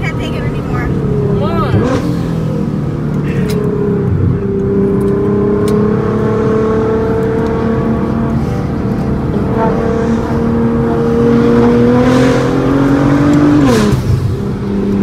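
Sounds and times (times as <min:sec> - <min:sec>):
car engine drone from cabin: 0:00.0 - 0:15.0
road rumble: 0:00.0 - 0:15.0.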